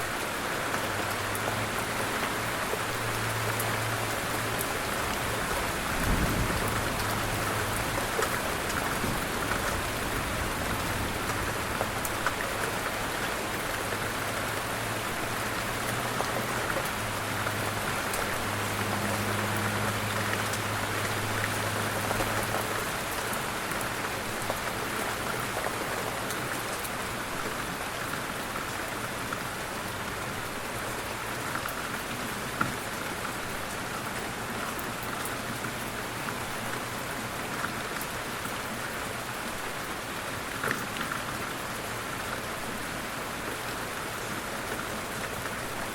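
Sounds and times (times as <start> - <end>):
light rain falling: 0.0 - 45.9.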